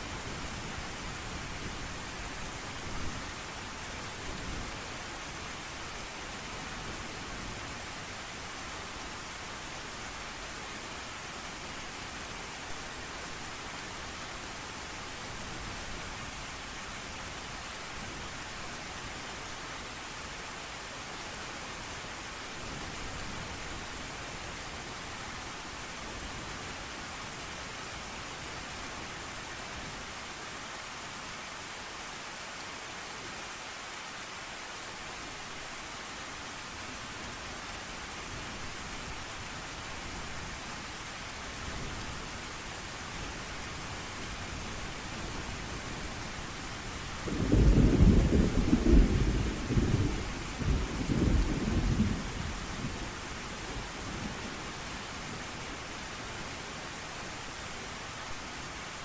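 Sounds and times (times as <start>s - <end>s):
rain falling: 0.0s - 59.0s
rain spatters: 0.0s - 59.0s.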